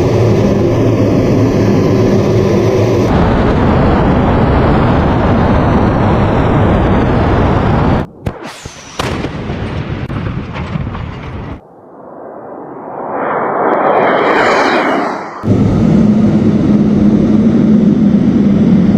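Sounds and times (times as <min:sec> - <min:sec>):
rumble of explosions: 0:00.0 - 0:18.9.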